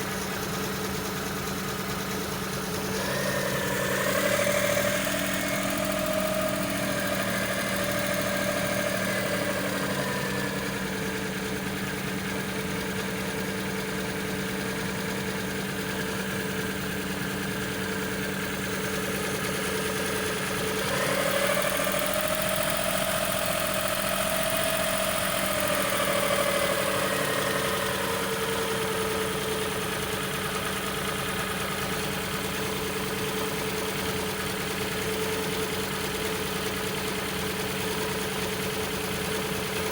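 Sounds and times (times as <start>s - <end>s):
engine idling unevenly: 0.0s - 39.9s.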